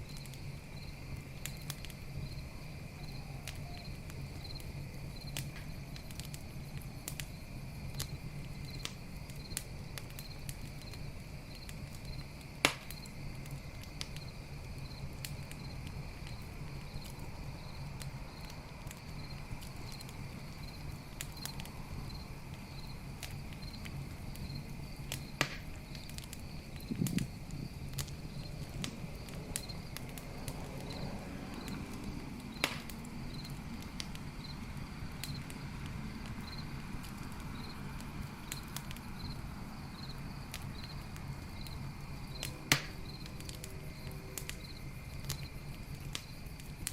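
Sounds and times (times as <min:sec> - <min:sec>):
campfire crackling and popping: 0:00.0 - 0:46.9
night insects chirping: 0:00.0 - 0:46.9.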